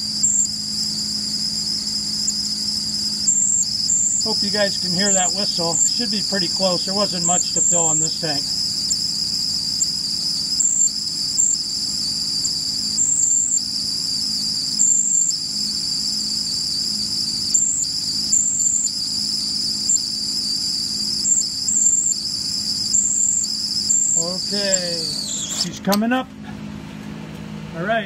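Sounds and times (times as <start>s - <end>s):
shrill two-tone whistle: 0.0s - 25.8s
low steady hum: 0.0s - 28.0s.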